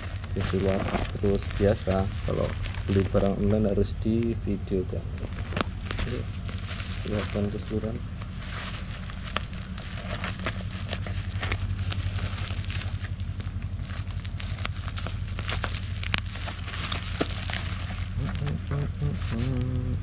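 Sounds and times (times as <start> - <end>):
plastic crinkling: 0.0 - 4.5, 5.1 - 19.8
steady low hum: 0.0 - 20.0.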